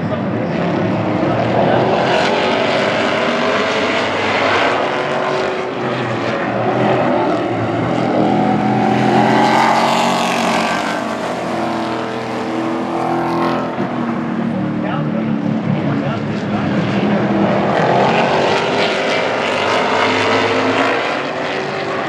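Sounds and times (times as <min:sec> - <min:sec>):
race truck engines passing by: 0:00.0 - 0:22.0.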